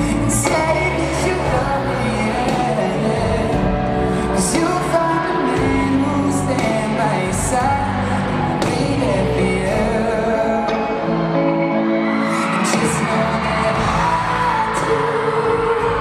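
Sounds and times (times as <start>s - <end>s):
man singing lead vocal: 0.0s - 16.0s
pop-rock band with electric guitars: 0.0s - 16.0s.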